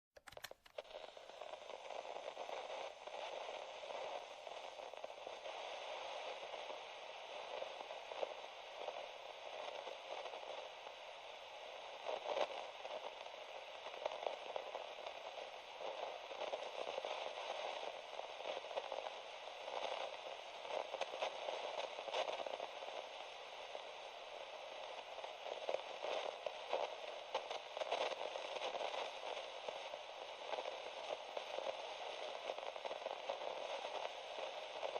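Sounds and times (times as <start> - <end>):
radio static hiss and crackles: 0.2 - 34.9.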